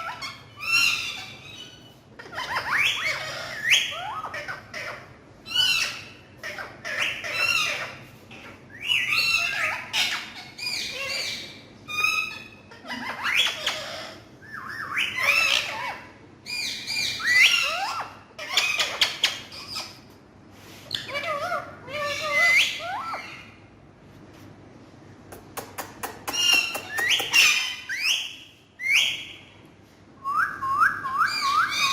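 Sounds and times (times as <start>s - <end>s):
parrot squawking: 0.0s - 20.0s, 20.9s - 23.6s, 26.2s - 29.4s, 30.9s - 31.9s.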